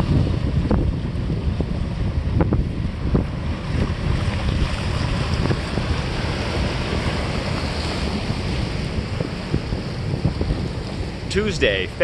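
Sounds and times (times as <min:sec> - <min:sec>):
small waves breaking on beach: 0:00.0 - 0:12.0
wind rumbling on microphone: 0:00.0 - 0:12.0.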